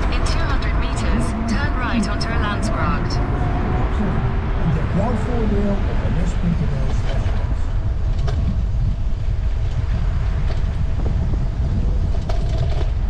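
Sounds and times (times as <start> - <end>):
road noise: 0.0 - 13.0
wind rumble on microphone: 0.0 - 13.0.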